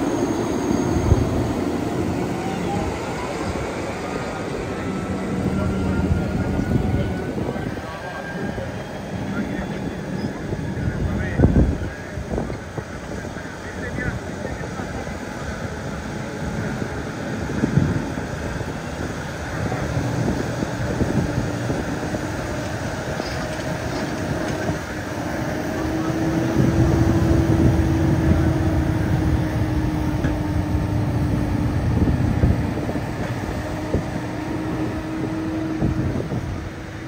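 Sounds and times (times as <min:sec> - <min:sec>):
tractor diesel engines under load: 0:00.0 - 0:37.0.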